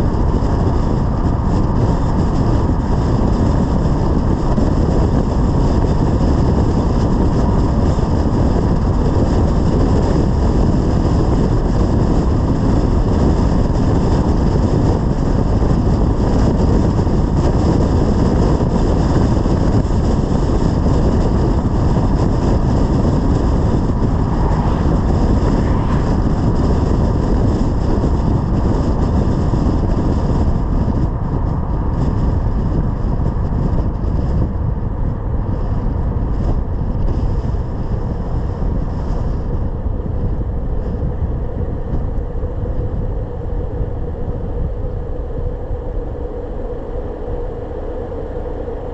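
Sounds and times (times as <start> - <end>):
car road noise: 0.0 - 48.9
wind rushing over microphone: 0.0 - 48.9.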